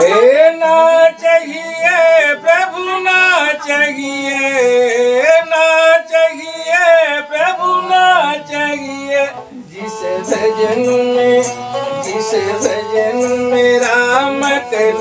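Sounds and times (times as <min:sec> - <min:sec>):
bowed sarangi: 0:00.0 - 0:15.0
man singing: 0:00.0 - 0:15.0.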